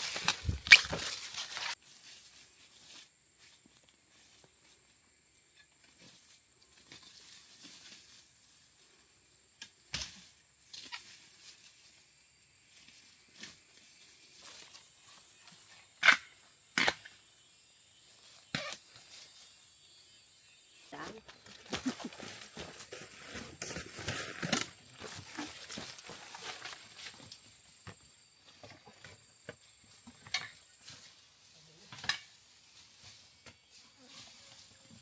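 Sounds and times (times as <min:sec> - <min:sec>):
rustling of undergrowth: 0:00.0 - 0:16.4, 0:17.4 - 0:35.0.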